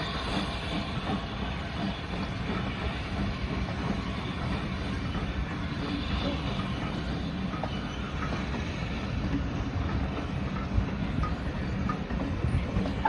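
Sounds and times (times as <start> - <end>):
steam train rolling on rails: 0.0 - 13.0.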